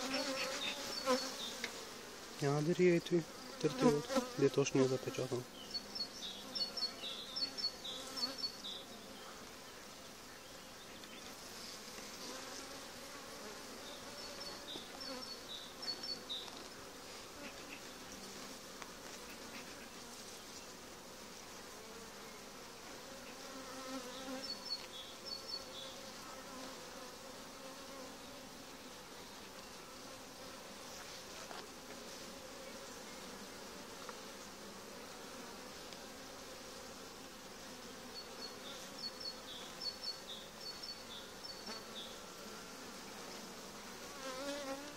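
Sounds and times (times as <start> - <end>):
honeybees buzzing: 0.0 - 44.9.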